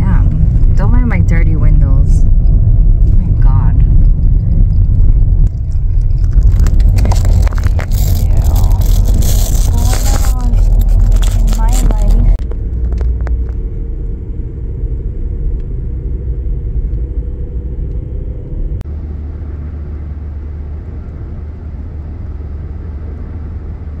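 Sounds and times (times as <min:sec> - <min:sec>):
car rumbling on road: 0:00.0 - 0:24.0.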